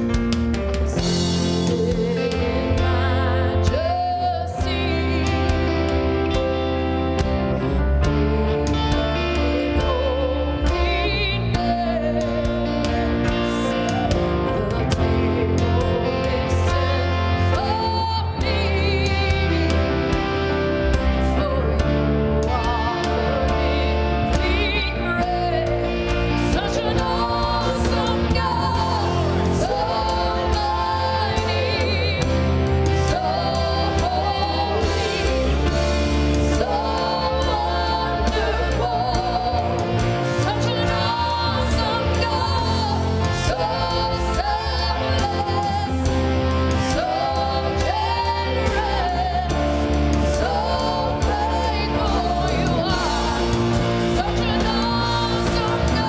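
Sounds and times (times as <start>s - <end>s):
band accompaniment with steady beat: 0.0s - 56.0s
voices singing gospel song: 0.9s - 56.0s.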